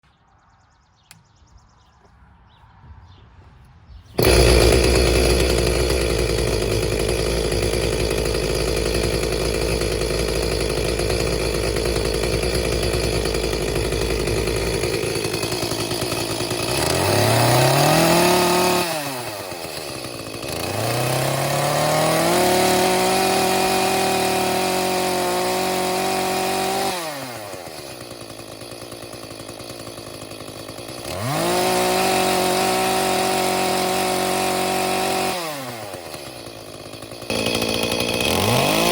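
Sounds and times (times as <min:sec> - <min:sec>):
chainsaw engine revving: 0:04.2 - 0:38.9.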